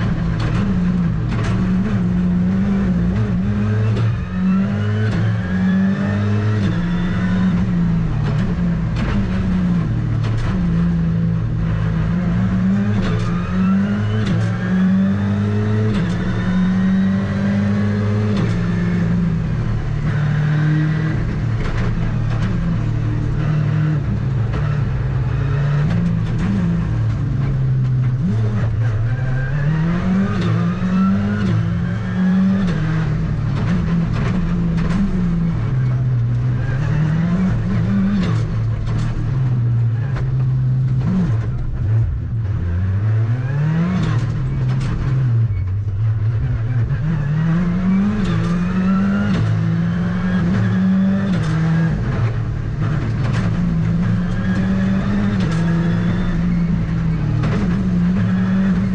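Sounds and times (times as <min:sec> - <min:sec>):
rally car engine revving: 0:00.0 - 0:58.9.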